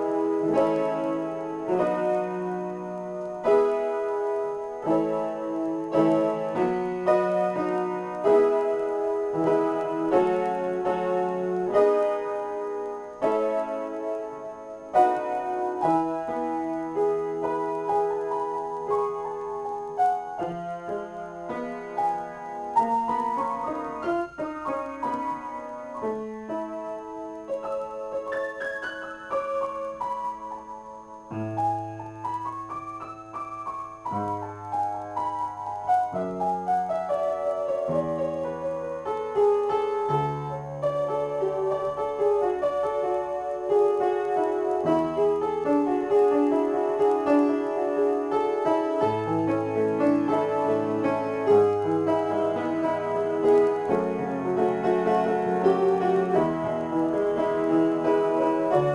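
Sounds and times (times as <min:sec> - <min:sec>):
solo piano improvisation: 0:00.0 - 0:58.9.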